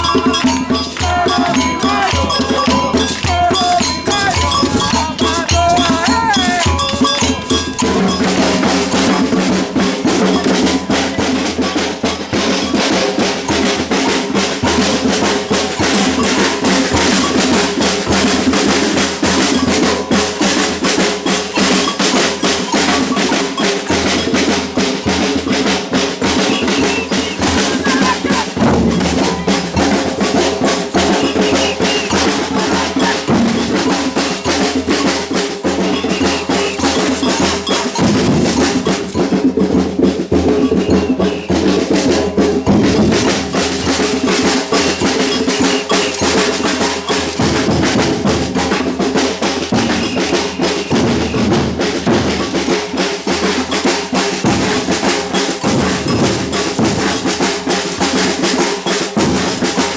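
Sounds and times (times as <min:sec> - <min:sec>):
snare drum strokes: 0:00.0 - 0:59.9
surdo bass drums: 0:00.0 - 0:59.9.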